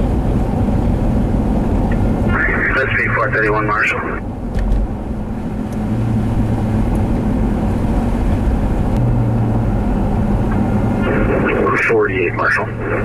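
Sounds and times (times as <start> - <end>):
low hum: 0.0 - 13.0
vehicle engine and road noise: 0.0 - 13.0.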